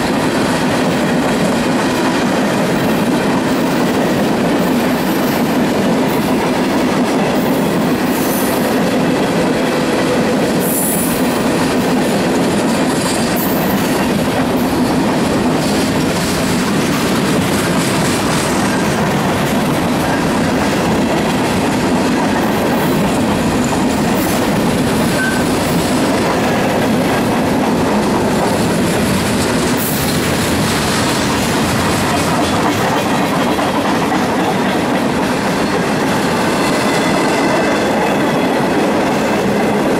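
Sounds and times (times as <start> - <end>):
train wheels on track: 0.0 - 39.9.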